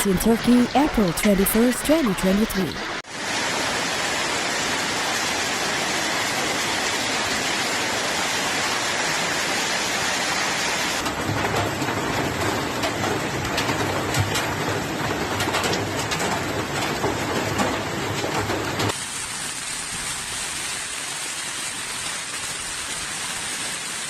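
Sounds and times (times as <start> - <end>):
hail and heavy rain pelting: 3.2 - 24.0.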